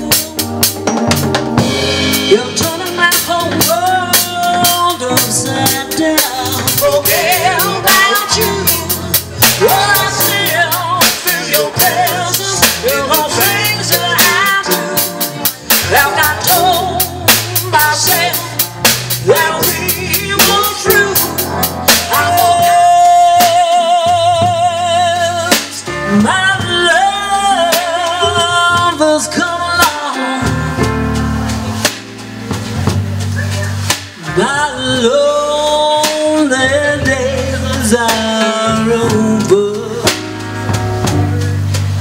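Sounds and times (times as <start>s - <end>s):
bass line: 0.0s - 42.0s
drum kit beat: 0.0s - 42.0s.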